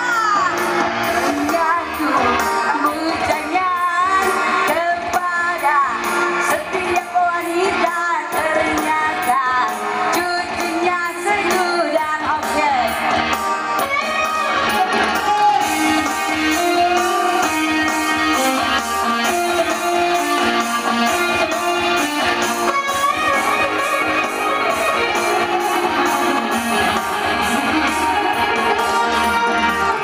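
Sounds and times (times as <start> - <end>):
live band music: 0.0 - 30.0
woman singing: 0.0 - 30.0.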